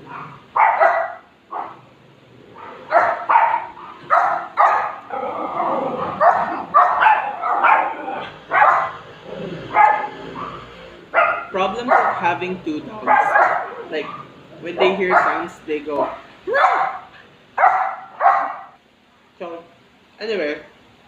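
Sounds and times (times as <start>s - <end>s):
dogs barking: 0.0s - 18.8s.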